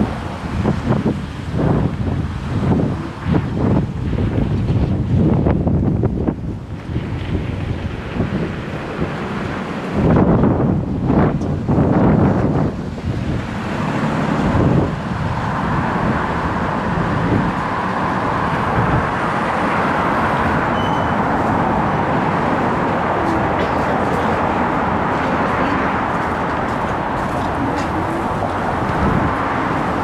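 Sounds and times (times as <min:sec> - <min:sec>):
scooter road noise: 0:00.0 - 0:30.0
street traffic: 0:00.0 - 0:30.0
wind buffeting microphone: 0:00.0 - 0:30.0.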